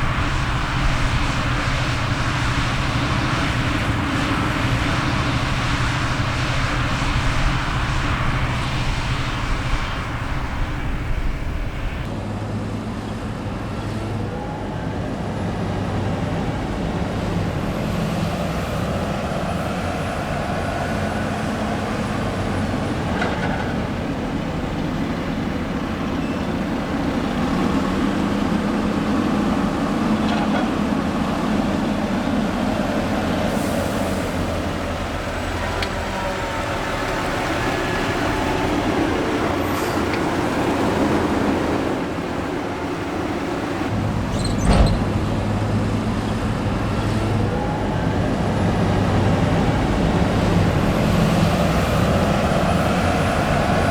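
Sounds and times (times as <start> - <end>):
diesel farm machinery running: 0.0 - 53.9.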